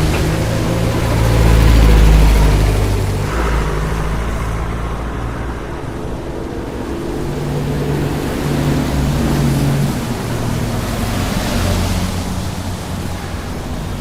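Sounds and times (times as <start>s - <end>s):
heavy vehicle low engine: 0.0s - 14.0s
highway traffic rushing: 0.0s - 14.0s
vehicle sweeping past: 0.0s - 14.0s.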